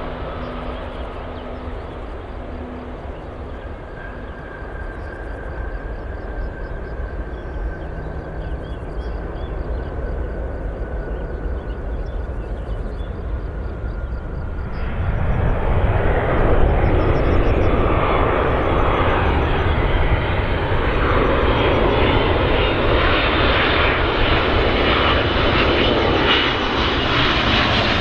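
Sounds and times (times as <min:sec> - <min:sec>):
high engine whine: 0:00.0 - 0:28.0
jet airliner rumble: 0:00.0 - 0:28.0.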